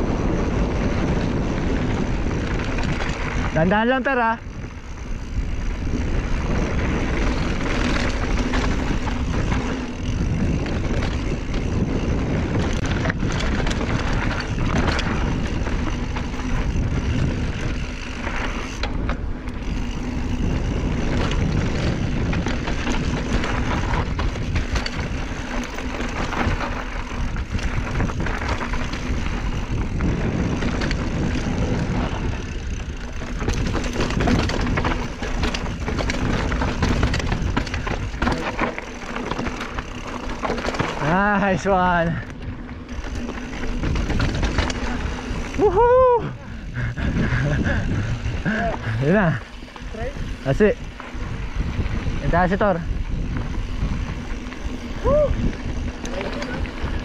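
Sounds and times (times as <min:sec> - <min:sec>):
tyres rolling over loose dirt: 0:00.0 - 0:46.2, 0:46.9 - 0:57.0
wind rushing over microphone: 0:00.0 - 0:57.0
bike clicks and knocks: 0:00.1 - 0:45.9, 0:46.8 - 0:57.0.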